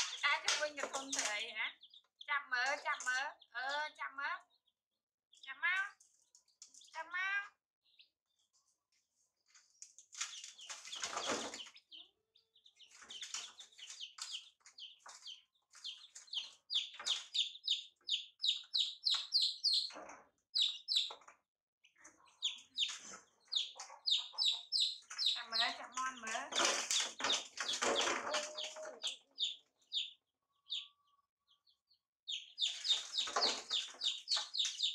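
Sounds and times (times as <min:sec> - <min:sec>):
chicks peeping: 0:00.0 - 0:04.7, 0:05.3 - 0:07.1, 0:07.8 - 0:34.9.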